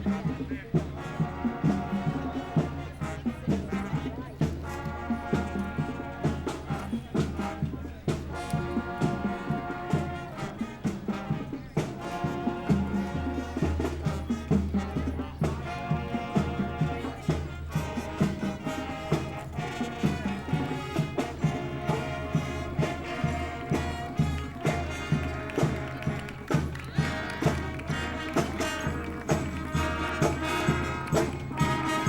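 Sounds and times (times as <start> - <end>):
marching band playing: 0.0 - 32.0
steady drum beat: 0.0 - 32.0.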